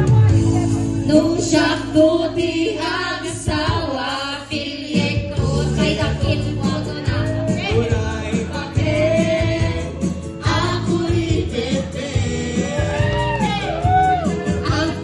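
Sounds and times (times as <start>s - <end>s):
instrumental backing music: 0.0s - 15.0s
men and women singing together: 1.2s - 15.0s.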